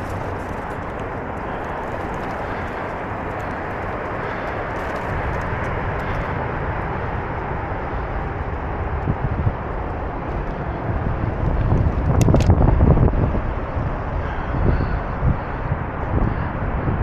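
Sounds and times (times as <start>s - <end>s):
bicycle tyres rolling on trail: 0.0s - 17.0s
deep rumble: 0.0s - 17.0s
wind buffeting microphone: 0.0s - 17.0s.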